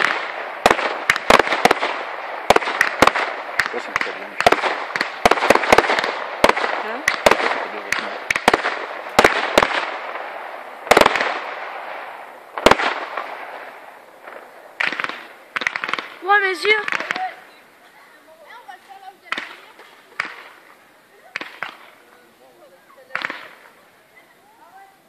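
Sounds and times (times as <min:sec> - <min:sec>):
firework shell bursts: 0:00.0 - 0:17.4, 0:19.3 - 0:22.0
heavy firework bangs: 0:00.0 - 0:17.5, 0:19.2 - 0:22.0, 0:23.1 - 0:23.8
fireworks crackling: 0:00.0 - 0:25.0.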